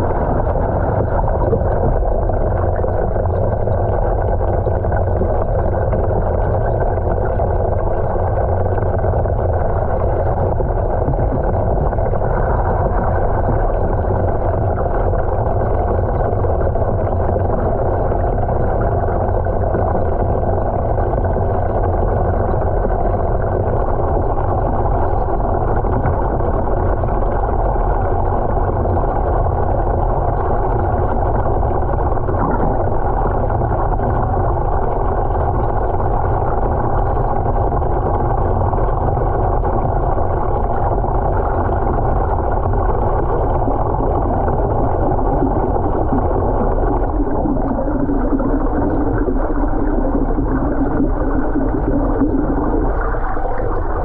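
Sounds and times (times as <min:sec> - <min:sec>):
low hum: 0:00.0 - 0:54.0
water churning in a tank: 0:00.0 - 0:54.0.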